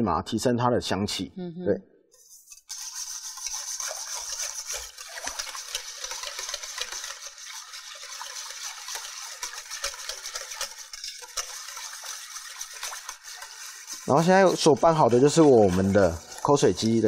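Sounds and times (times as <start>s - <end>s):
whisk beating sauce in bowl: 2.2s - 17.0s
whisk wires ticking against bowl: 2.5s - 17.0s.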